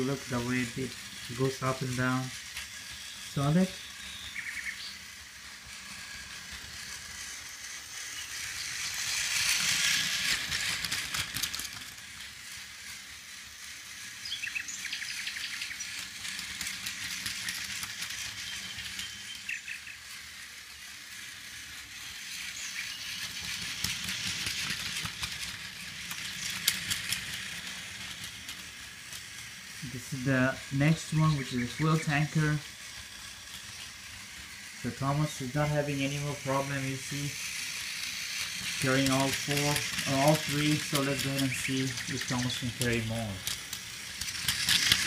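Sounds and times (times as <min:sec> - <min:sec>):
small clicks of wheels and couplings: 0:00.0 - 0:13.0, 0:13.9 - 0:45.0
toy train whirring and rattling: 0:00.0 - 0:45.0.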